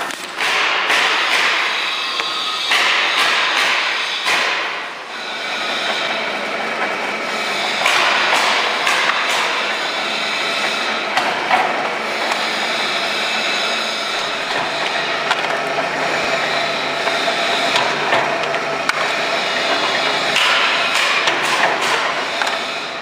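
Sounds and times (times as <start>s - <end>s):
roller press machine running: 0.0s - 23.0s.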